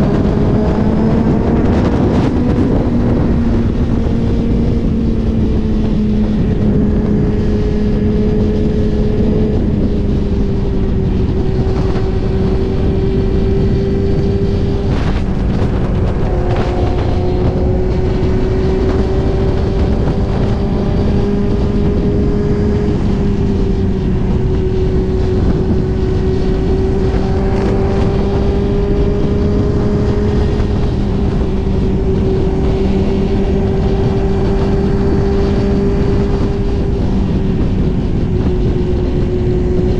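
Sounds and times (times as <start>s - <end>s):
heavy wind noise: 0.0s - 39.9s
motorcycle engine cruising: 0.0s - 39.9s
road noise: 0.0s - 39.9s.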